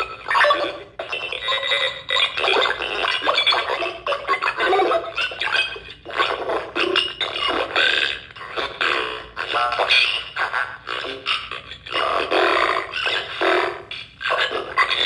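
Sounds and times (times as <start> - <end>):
glitchy synthesized speech tones: 0.0 - 15.0.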